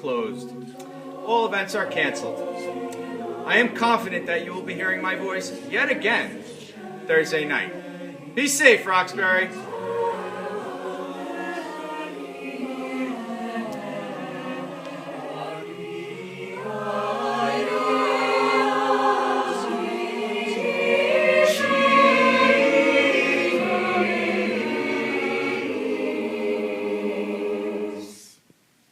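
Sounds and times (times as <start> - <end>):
choir singing held chords: 0.0 - 28.4.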